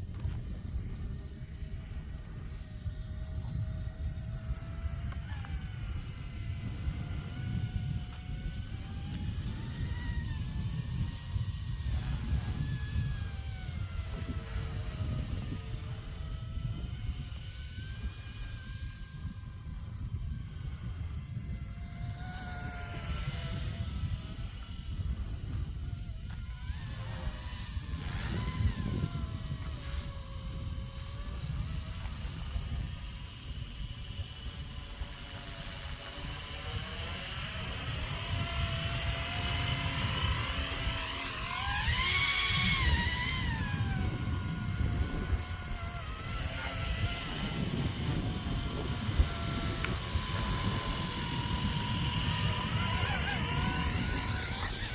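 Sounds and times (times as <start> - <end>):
rc helicopter motor whine: 0.0 - 54.9
wind rumble on microphone: 0.0 - 54.9.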